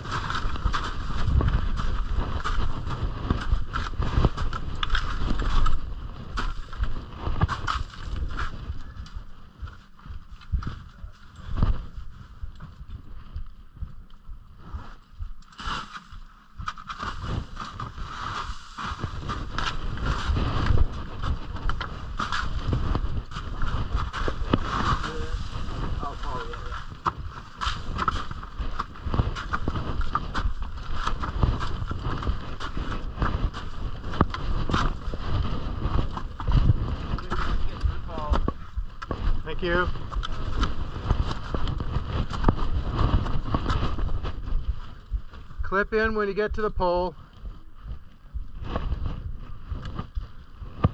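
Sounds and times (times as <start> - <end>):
crampon footsteps crunching on snow: 0.0 - 45.8, 47.2 - 50.9
wind rumble on microphone: 0.0 - 50.9.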